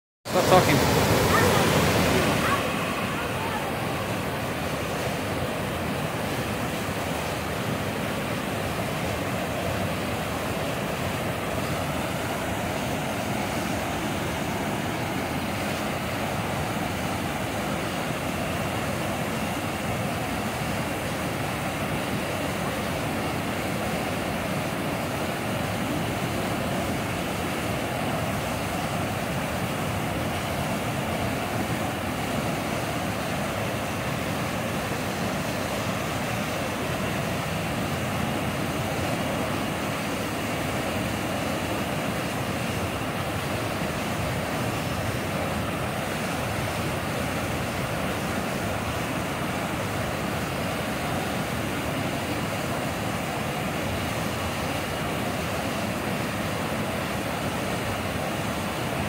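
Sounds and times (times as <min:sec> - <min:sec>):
waterfall rushing: 0:00.3 - 0:59.0.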